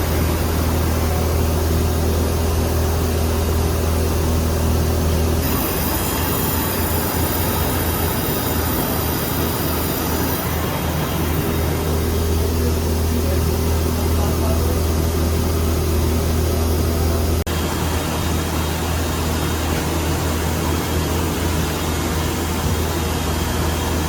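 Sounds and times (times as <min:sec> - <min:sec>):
high steady whine: 0:00.0 - 0:24.0
machining center mechanical hum: 0:00.0 - 0:24.0.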